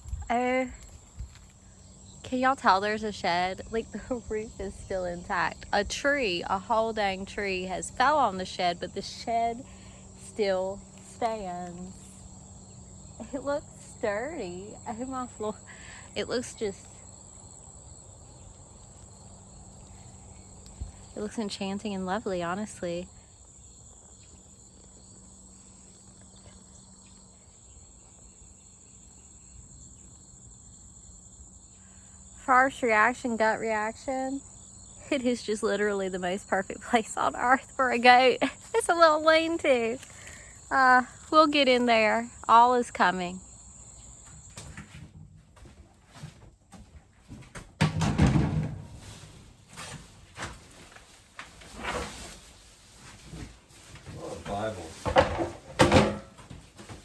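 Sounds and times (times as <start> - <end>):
insects chirping: 0.0 - 46.7, 47.3 - 57.0.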